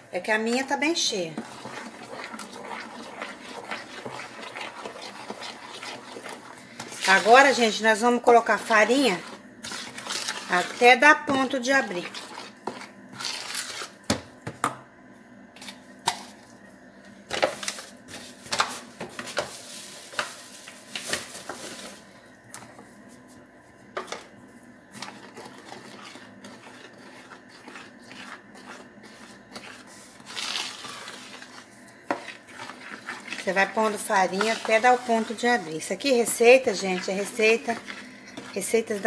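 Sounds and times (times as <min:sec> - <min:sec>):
spoon stirring batter in bowl: 0:00.2 - 0:14.6, 0:15.6 - 0:39.0.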